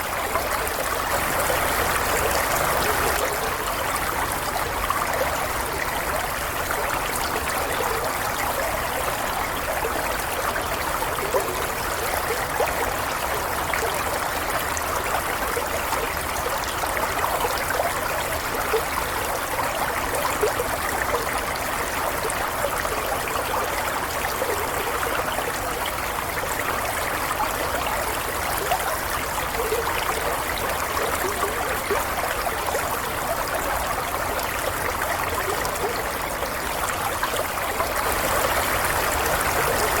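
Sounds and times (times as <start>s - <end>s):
small stream babbling: 0.0s - 40.0s.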